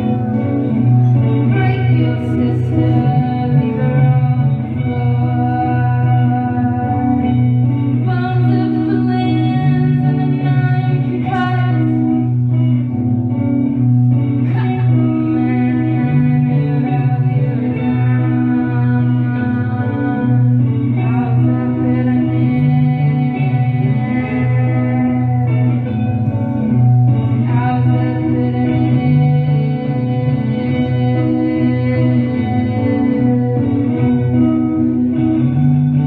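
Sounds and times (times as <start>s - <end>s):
repeating guitar melody: 0.0s - 36.0s.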